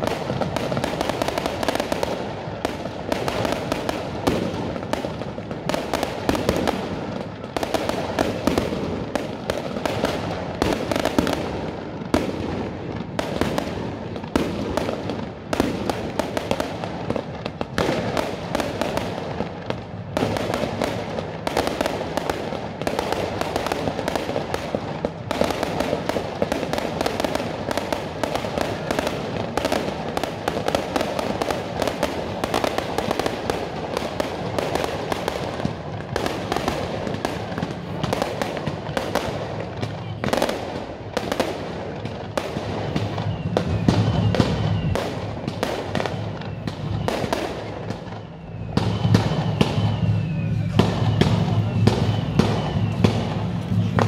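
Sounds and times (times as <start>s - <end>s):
fireworks and firecrackers banging: 0.0s - 54.0s.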